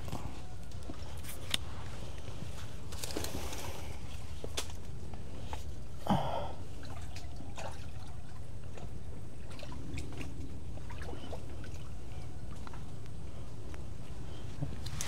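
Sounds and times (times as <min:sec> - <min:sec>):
wading steps in shallow water: 0:00.0 - 0:15.0.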